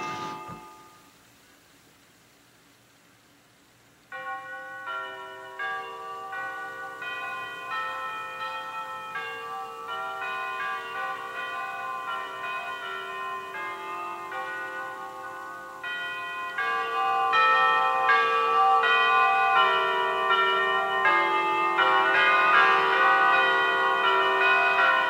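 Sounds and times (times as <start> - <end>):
church bells ringing: 0.0 - 1.0, 4.1 - 25.0.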